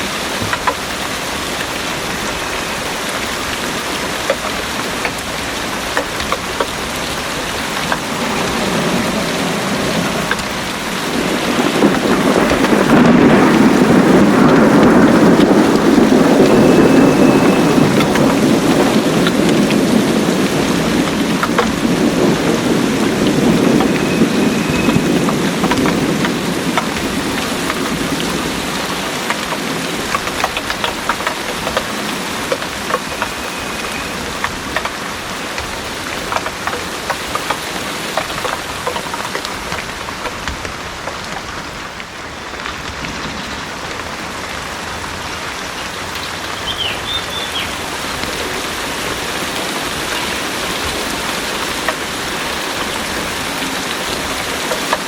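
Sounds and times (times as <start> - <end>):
heavy drips: 0.0 - 55.0
heavy rain pouring: 0.0 - 55.0
rolling thunder rumble: 0.0 - 55.0.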